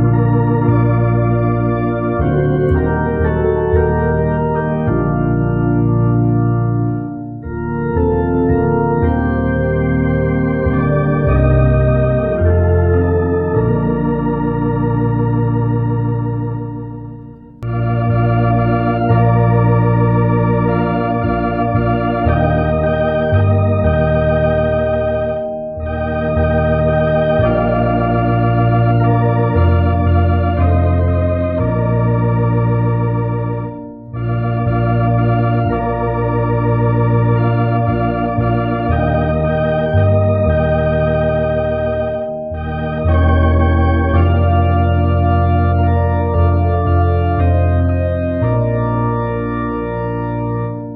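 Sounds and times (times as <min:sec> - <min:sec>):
organ playing sustained chords: 0:00.0 - 0:50.9.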